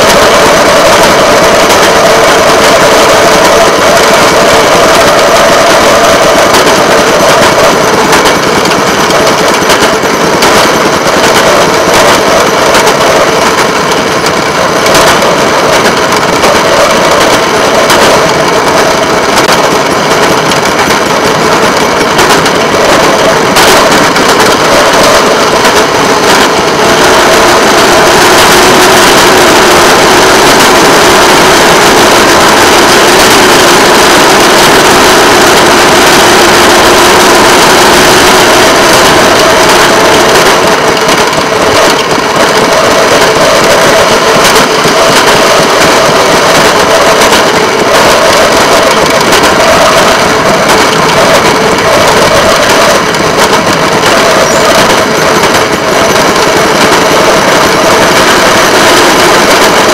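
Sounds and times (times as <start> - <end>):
small engine running: 0.0 - 59.9
wheels running on rails: 0.0 - 59.9.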